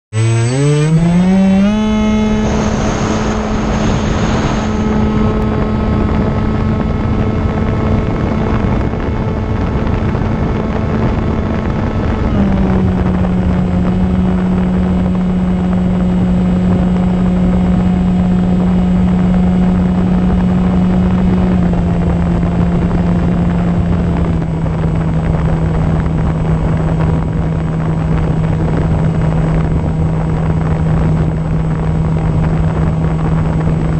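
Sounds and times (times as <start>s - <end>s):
electric motor and propeller drone: 0.1s - 33.9s
wind noise from airflow: 0.1s - 33.9s.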